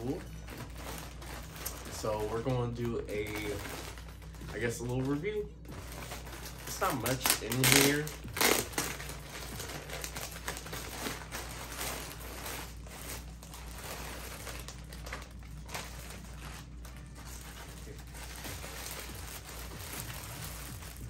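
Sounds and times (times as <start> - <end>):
packaging rustling and crinkling: 0.0 - 21.0.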